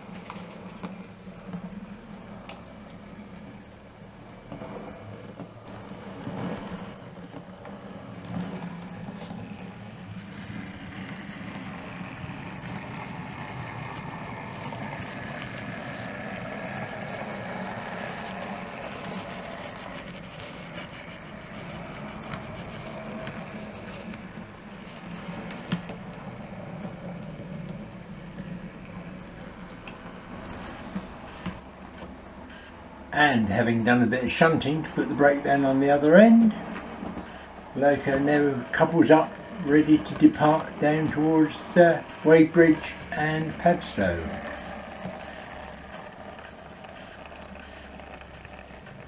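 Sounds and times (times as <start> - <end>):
model locomotive engine sound: 0.0 - 49.0.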